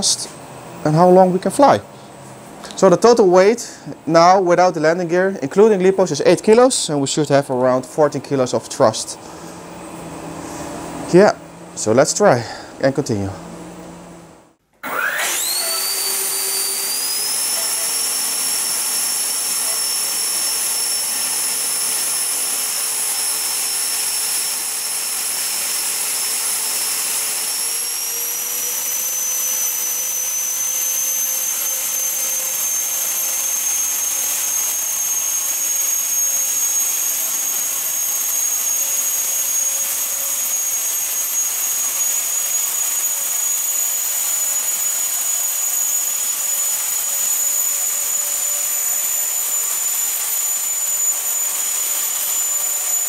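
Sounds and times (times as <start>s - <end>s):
electric fans whining: 0.0s - 53.0s.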